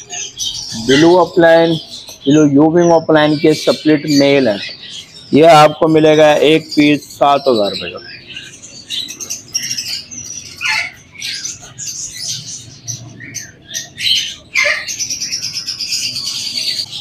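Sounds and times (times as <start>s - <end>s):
lovebirds chirping: 0.0s - 17.0s
sharp high bird calls: 0.0s - 17.0s.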